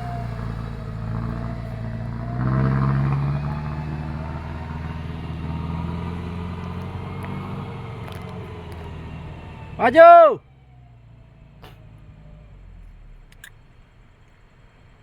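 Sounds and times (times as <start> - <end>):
truck engine under load: 0.0 - 15.0.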